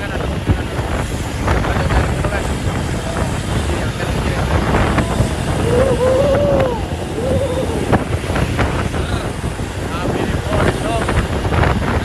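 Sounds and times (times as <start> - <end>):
highway traffic rumble: 0.0 - 12.0
wind buffeting microphone: 0.0 - 12.0.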